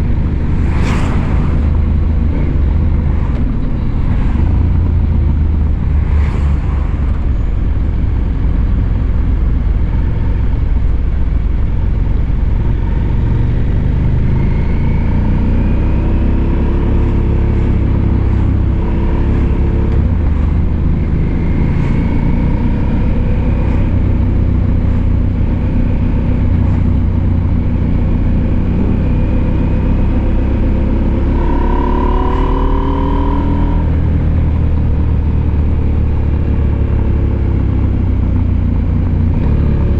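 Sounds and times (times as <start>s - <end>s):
steady low rumble: 0.0s - 14.6s, 17.4s - 31.9s, 33.2s - 39.8s
motorcycle engine accelerating: 0.0s - 39.9s.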